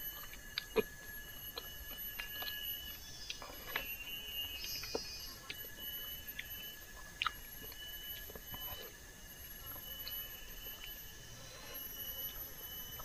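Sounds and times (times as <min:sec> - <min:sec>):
insect trilling: 0:00.0 - 0:13.0
soft chewing: 0:00.0 - 0:13.0.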